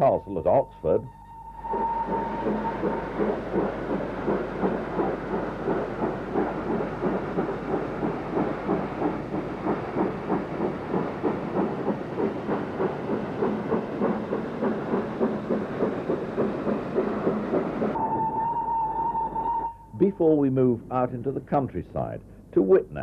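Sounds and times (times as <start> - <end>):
steam locomotive chuffing: 0.0 - 23.0
train rumble: 0.0 - 23.0.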